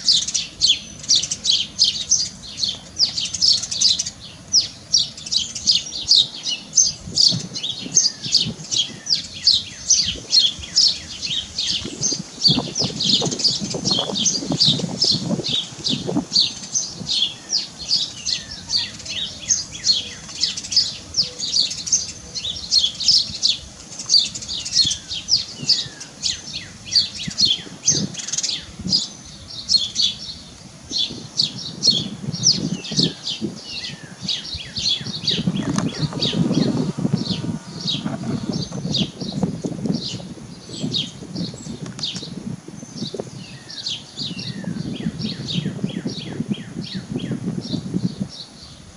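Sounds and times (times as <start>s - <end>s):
bird chirping: 0.0s - 48.8s.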